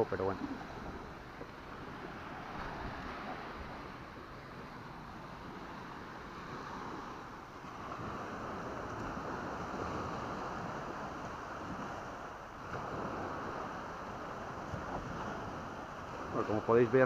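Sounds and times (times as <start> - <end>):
small waves washing on sand: 0.0 - 17.0.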